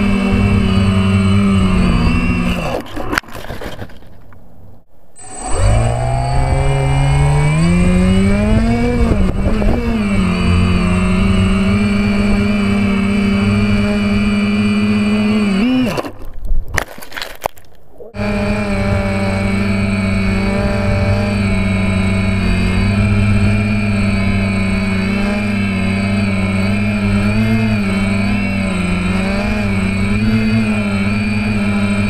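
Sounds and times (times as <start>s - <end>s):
quadcopter motors whining: 0.0s - 4.1s, 5.2s - 16.4s, 18.0s - 32.0s.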